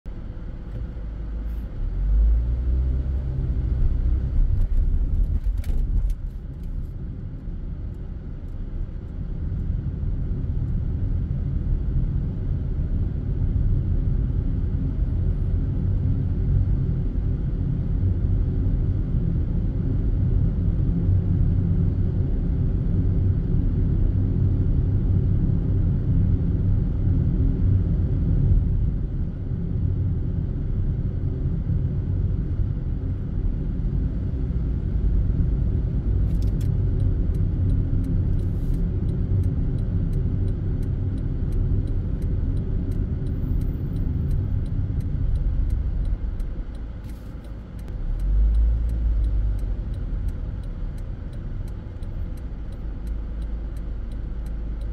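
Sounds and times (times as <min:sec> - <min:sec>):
car tyres and engine rumble: 0:00.1 - 0:54.9.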